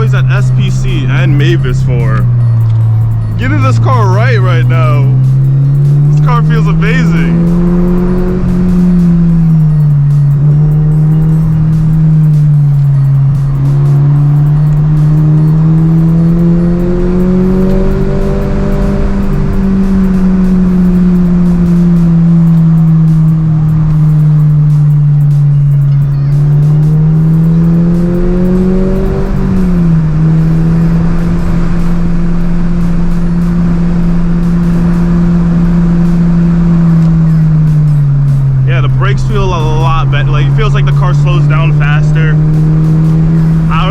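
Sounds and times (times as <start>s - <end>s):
car engine drone from inside: 0.0s - 43.9s.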